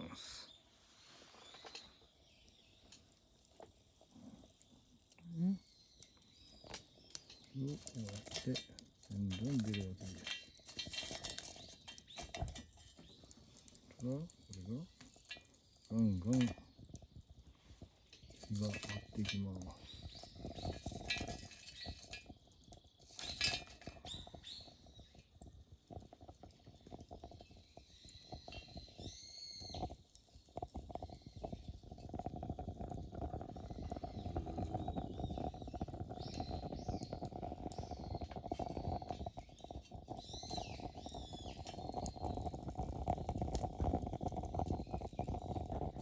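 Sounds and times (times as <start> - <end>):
stove fire roaring: 0.0 - 46.0.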